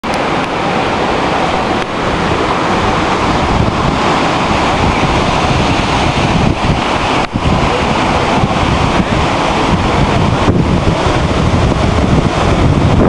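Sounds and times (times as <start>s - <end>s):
heavy rain pouring: 0.0s - 13.0s
wind buffeting microphone: 0.0s - 13.0s.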